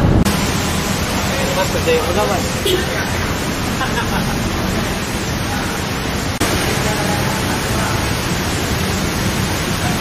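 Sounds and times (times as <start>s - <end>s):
outdoor hiss: 0.3s - 10.0s.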